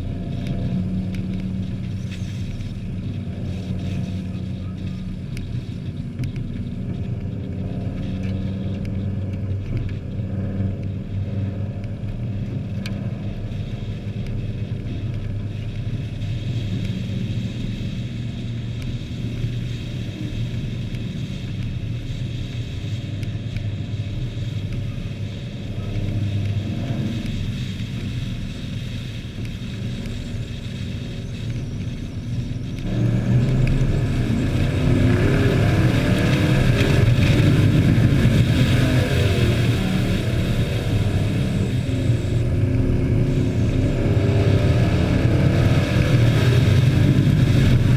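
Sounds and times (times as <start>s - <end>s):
racing truck engines: 0.0s - 47.9s.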